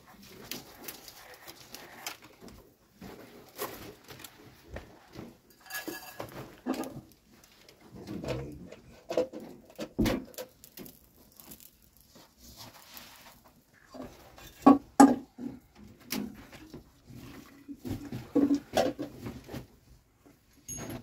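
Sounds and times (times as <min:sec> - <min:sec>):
household items knocking and rustling: 0:00.0 - 0:21.0.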